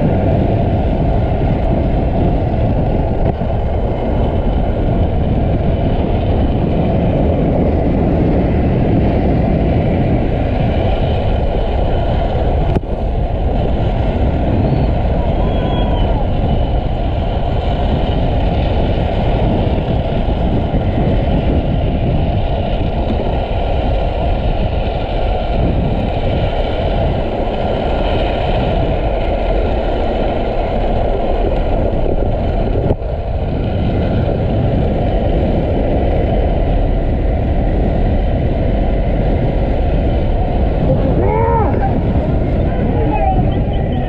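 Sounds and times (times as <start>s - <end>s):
wheels rolling fast on asphalt: 0.0s - 44.0s
wind rushing over camera: 0.0s - 44.0s.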